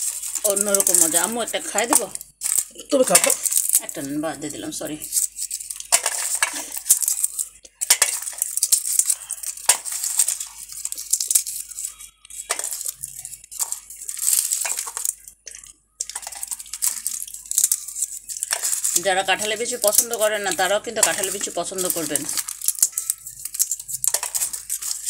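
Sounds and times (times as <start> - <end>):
seed clinking into metal bowl: 0.0 - 25.0
seed husks crackling: 0.0 - 25.0.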